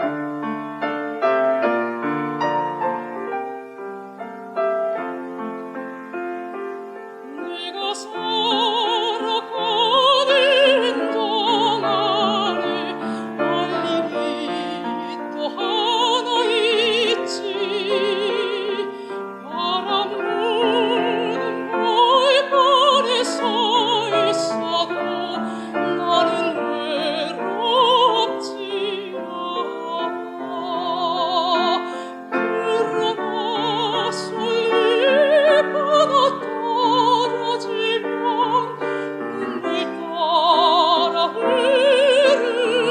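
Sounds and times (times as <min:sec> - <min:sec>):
piano accompaniment: 0:00.0 - 0:42.9
operatic singing: 0:07.2 - 0:42.9.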